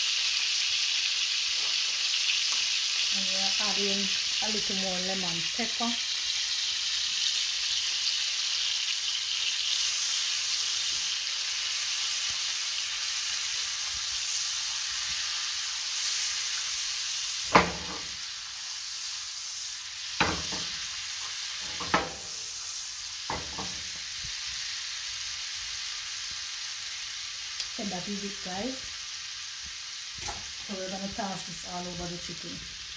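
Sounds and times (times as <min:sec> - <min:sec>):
sauce sizzling in a frying pan: 0:00.0 - 0:32.9.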